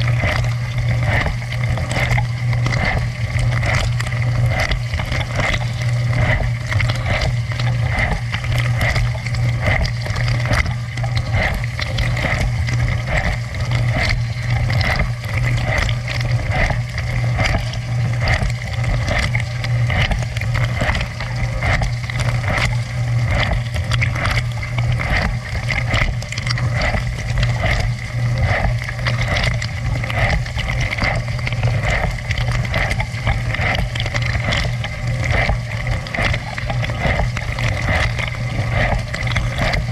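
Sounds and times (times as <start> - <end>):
dishwasher pump hum: 0.0 - 39.9
water spraying and splashing: 0.0 - 39.9.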